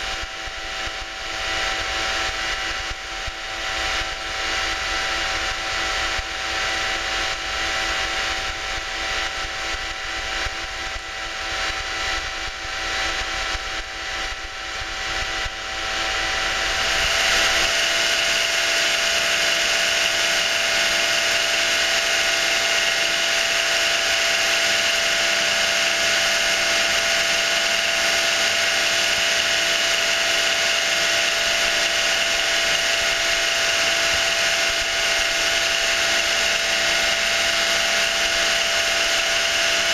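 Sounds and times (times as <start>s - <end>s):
pump motor whining: 0.0s - 39.9s.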